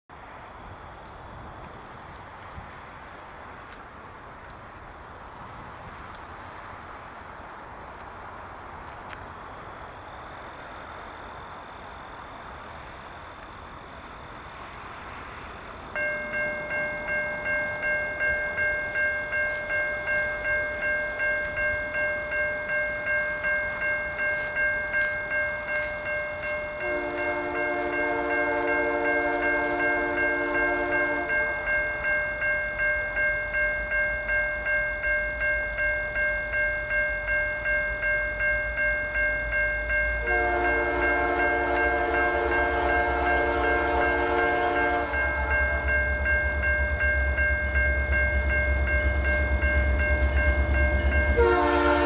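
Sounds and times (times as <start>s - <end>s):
faint steady rush: 0.2s - 52.0s
crossing warning bell ringing: 9.9s - 52.0s.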